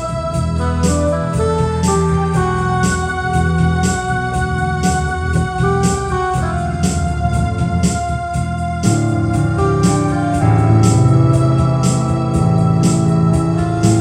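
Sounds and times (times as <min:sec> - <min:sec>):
light tapping beat: 0:00.0 - 0:14.0
organ-like keyboard chords: 0:00.0 - 0:14.0.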